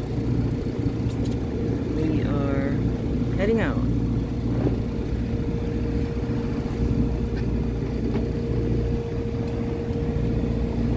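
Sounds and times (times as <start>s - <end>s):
boat diesel engine running: 0.0s - 10.9s.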